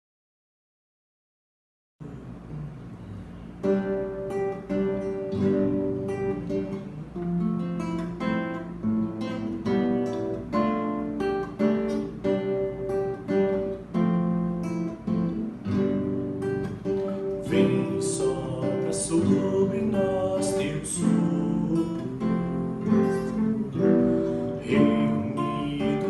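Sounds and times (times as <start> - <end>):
acoustic guitar strumming chords: 2.0 - 26.0.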